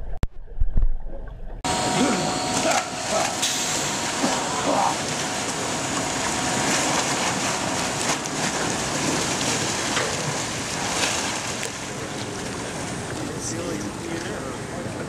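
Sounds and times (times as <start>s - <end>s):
water splashing and churning: 0.3s - 15.0s.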